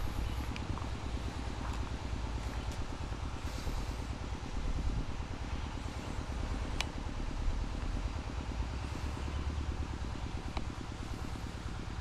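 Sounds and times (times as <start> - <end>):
low pulsing engine rumble: 0.0 - 12.0.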